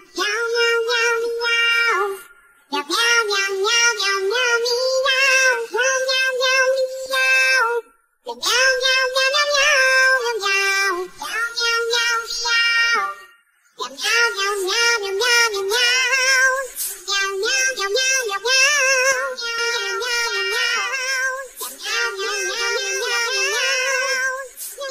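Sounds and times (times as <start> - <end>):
high child-like voice singing: 0.0 - 24.9.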